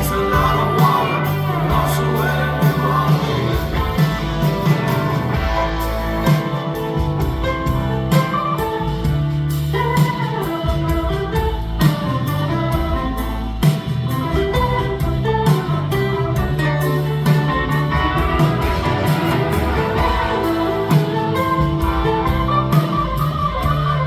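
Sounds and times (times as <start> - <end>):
bass guitar: 0.0 - 24.0
drums: 0.0 - 24.0
electric guitar: 0.0 - 24.0
organ lead: 0.0 - 24.0.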